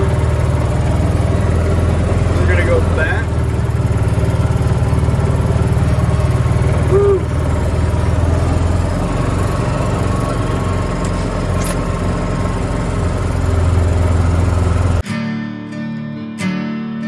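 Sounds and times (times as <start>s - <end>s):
small vehicle engine running: 0.0s - 15.0s.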